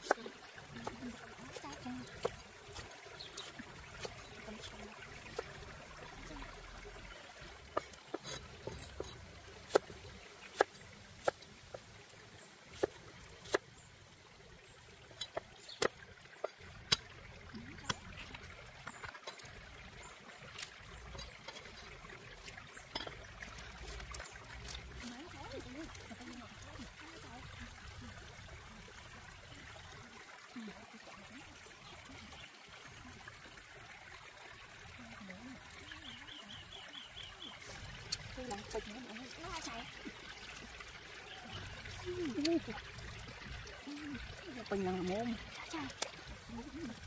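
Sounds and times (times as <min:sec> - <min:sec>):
water trickling faintly: 0:00.0 - 0:47.0.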